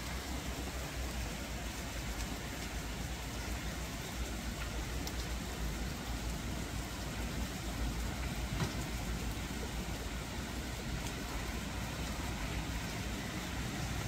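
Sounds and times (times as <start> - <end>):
rain falling on wet street: 0.0 - 14.0.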